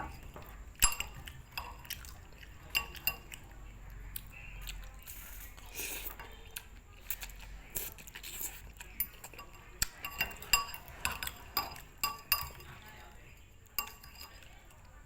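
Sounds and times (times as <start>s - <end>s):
utensils clinking against dishes: 0.0s - 3.5s, 4.6s - 14.8s.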